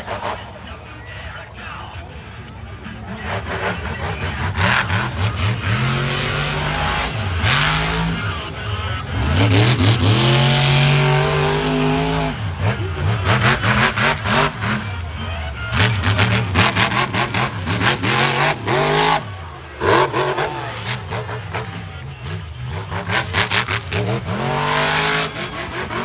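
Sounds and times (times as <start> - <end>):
truck engine revving hard: 0.0 - 0.9, 2.0 - 26.0.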